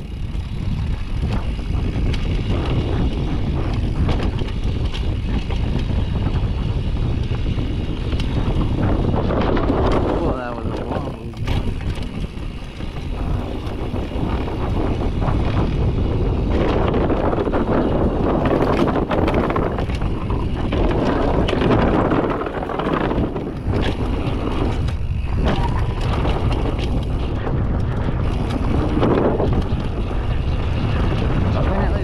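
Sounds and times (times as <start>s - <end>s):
bike rattling: 0.0s - 32.0s
tyres rumbling on dirt: 0.0s - 32.0s
wind buffeting microphone: 0.0s - 32.0s.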